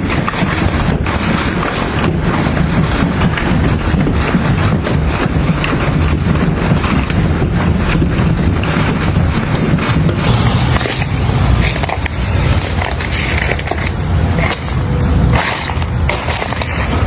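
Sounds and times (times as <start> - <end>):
hailstones pounding hard surfaces: 0.0 - 17.0.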